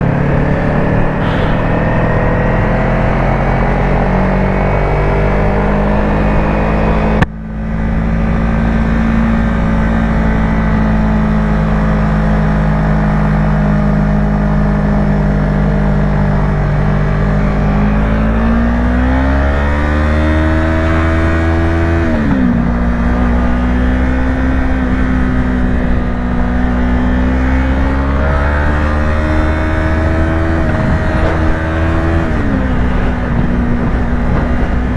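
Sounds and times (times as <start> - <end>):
motorcycle engine running: 0.0 - 18.6, 21.0 - 34.9
road and wind noise: 0.0 - 34.9.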